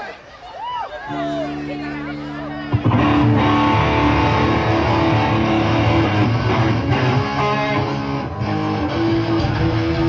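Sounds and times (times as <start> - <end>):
electric guitar strumming: 1.1 - 10.0
live rock band playing: 1.1 - 10.0.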